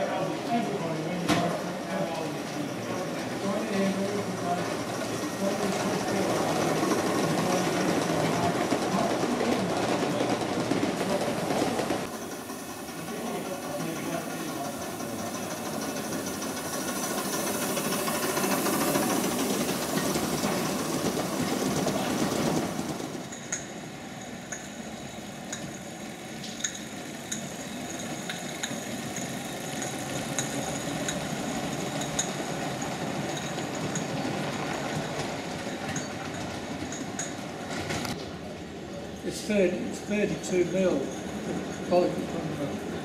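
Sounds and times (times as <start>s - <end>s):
model train wheels rolling on rail: 0.0s - 43.0s.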